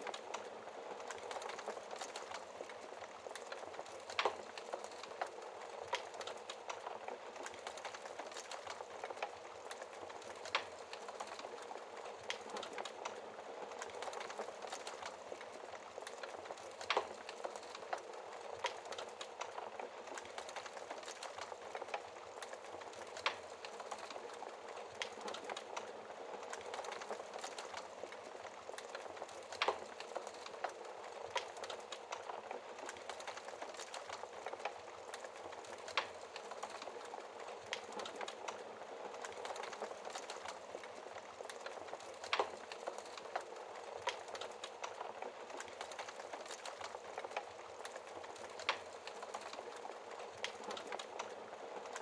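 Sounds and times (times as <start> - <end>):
fire crackling and popping: 0.0 - 52.0
wood fire hissing: 0.0 - 52.0.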